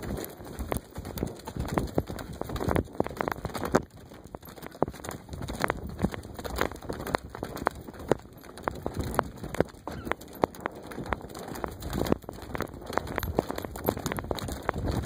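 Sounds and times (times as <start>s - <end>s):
hooves on dirt trail: 0.0s - 15.0s.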